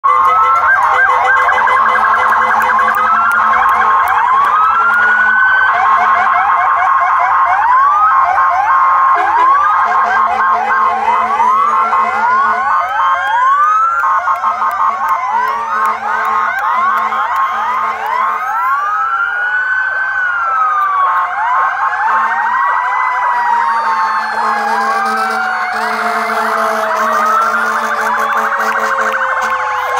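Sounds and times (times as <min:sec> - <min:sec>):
emergency vehicle sirens: 0:00.0 - 0:29.9.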